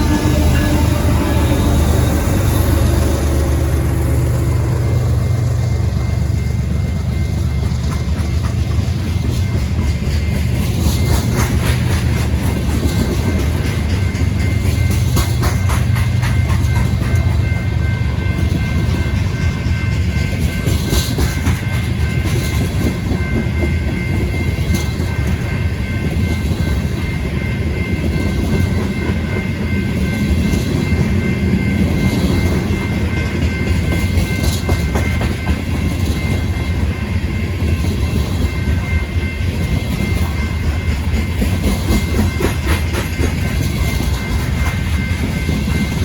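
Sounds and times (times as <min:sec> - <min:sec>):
train wheels rumbling: 0:00.0 - 0:46.0.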